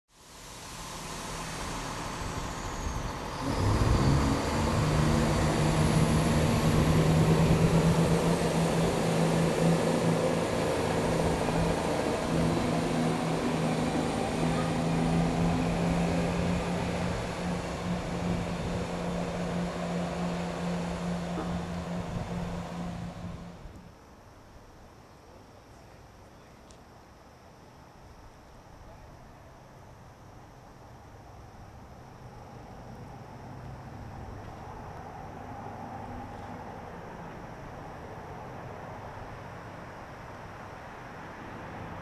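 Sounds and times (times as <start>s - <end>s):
diesel locomotive engines working hard: 0.2s - 24.1s, 29.9s - 42.0s.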